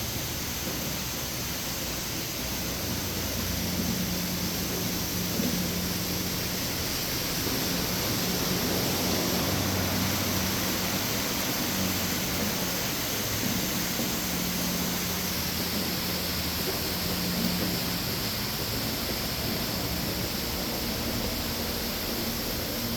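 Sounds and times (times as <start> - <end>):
low even machine hum: 0.0 - 22.9
steady machinery hiss: 0.0 - 22.9.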